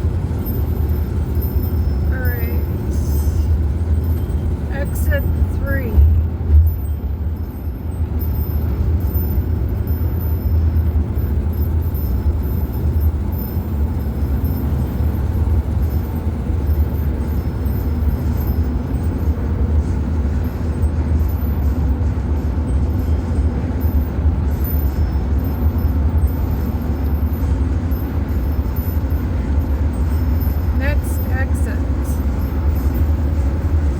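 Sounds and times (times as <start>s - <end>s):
vehicle road and engine rumble: 0.0s - 33.9s.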